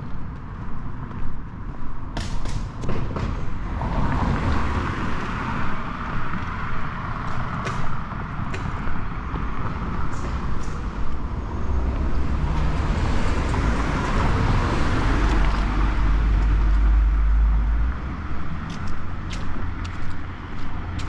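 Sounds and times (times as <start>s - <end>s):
traffic rumble: 0.0s - 21.0s
car passing: 3.1s - 21.0s.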